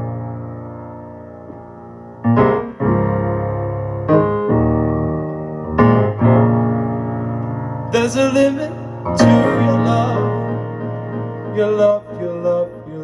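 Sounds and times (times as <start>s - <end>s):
piano chords over loudspeakers: 0.0s - 13.0s.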